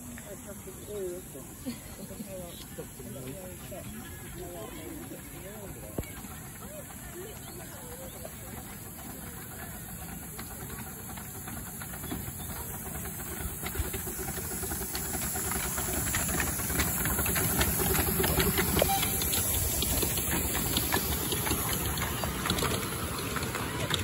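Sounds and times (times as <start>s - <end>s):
rapid clicks of train running gear: 0.0s - 24.0s
steam hissing: 0.6s - 24.0s.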